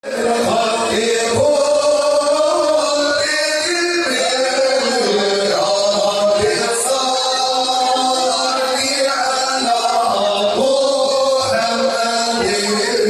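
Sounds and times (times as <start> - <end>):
male vocal group singing: 0.0 - 13.0.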